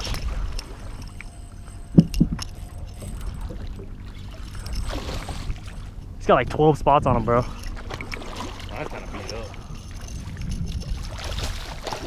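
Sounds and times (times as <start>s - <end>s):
water sloshing around boat: 0.0s - 12.0s.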